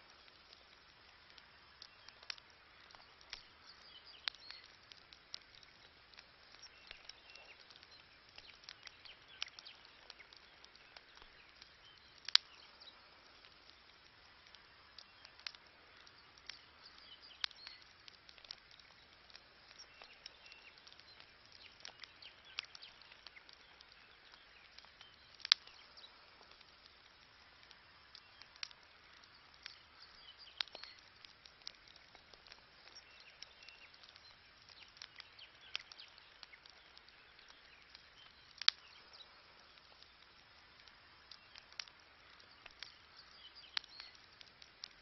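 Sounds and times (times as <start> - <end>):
campfire crackling: 0.0 - 45.0.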